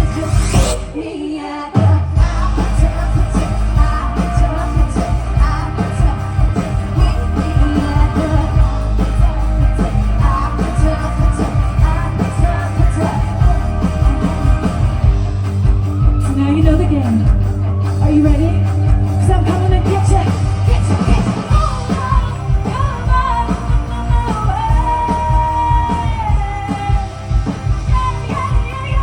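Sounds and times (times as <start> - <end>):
loud amplified rock music: 0.0 - 29.0.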